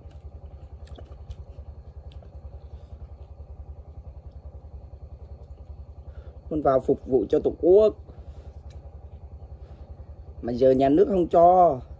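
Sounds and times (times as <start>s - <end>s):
small engine running: 0.0s - 11.9s.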